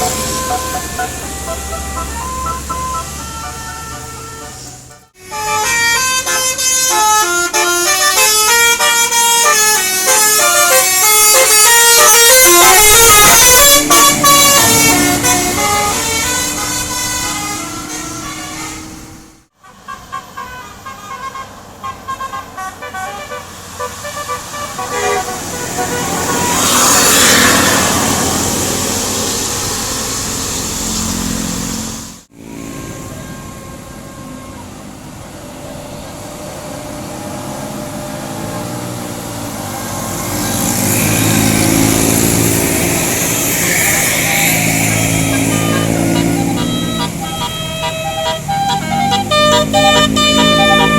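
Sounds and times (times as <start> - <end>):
multi-trumpet bus horn melody: 0.0 - 29.3, 31.6 - 35.3, 38.4 - 50.9
traffic noise: 0.0 - 50.9.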